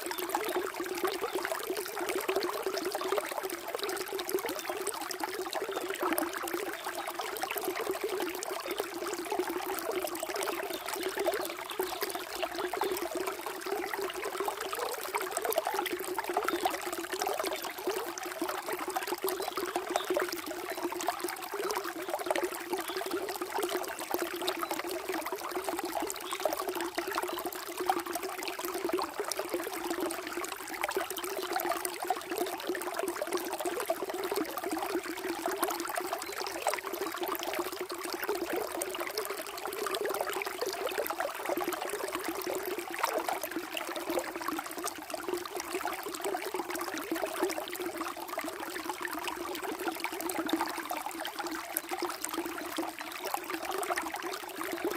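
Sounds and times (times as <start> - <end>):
water flowing and trickling: 0.0 - 54.9.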